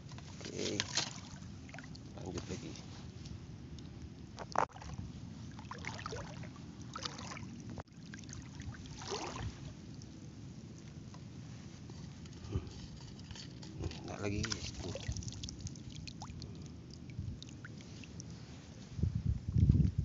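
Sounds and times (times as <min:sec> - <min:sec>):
water sloshing and splashing: 0:00.0 - 0:19.1.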